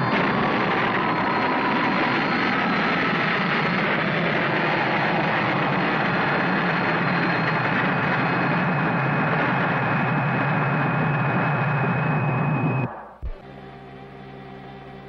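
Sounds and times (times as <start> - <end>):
rocket engine rushing drone: 0.0 - 15.0.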